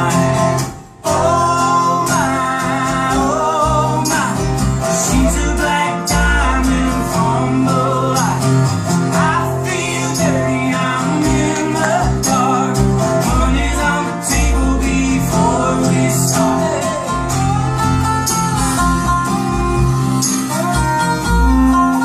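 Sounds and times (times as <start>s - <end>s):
people singing: 0.0s - 18.1s
acoustic guitars strumming: 0.0s - 22.0s
upright bass: 0.0s - 22.0s.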